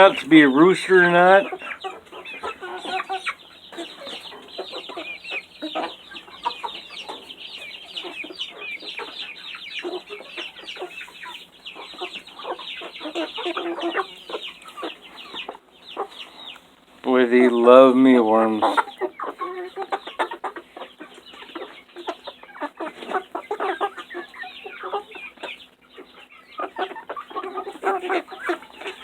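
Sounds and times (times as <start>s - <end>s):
chicks clucking and peeping: 0.0s - 29.0s.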